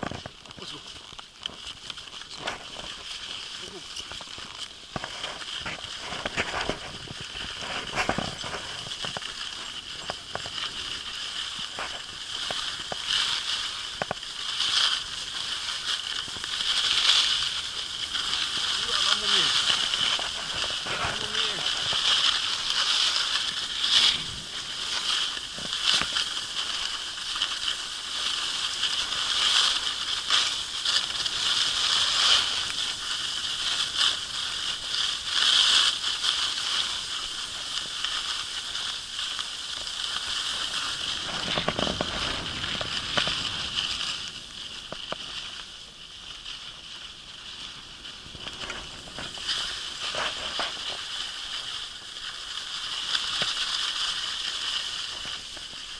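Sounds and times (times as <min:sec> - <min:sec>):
skis hissing over snow: 0:00.0 - 0:55.9.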